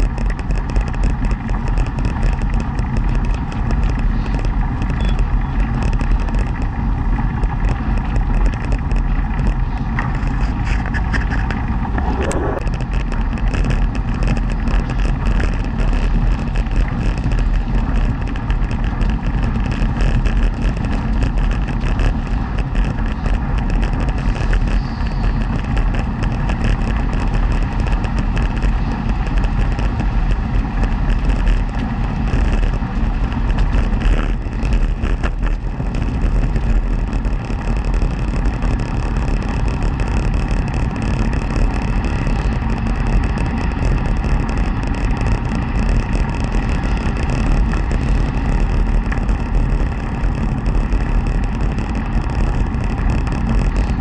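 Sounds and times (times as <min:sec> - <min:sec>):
tyre and drivetrain rumble: 0:00.0 - 0:54.0.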